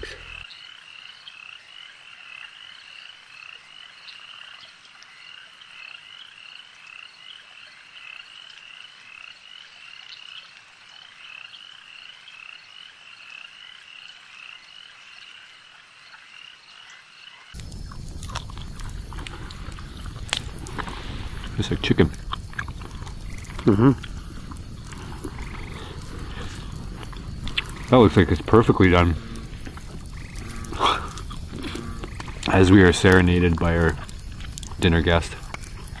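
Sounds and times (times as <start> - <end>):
frogs chirping: 0.0 - 36.0.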